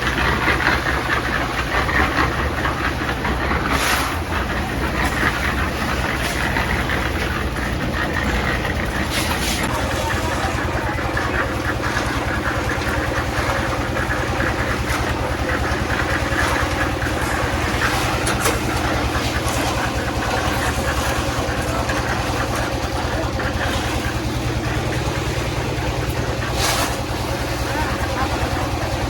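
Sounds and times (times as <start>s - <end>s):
engine running steadily: 0.0s - 29.0s.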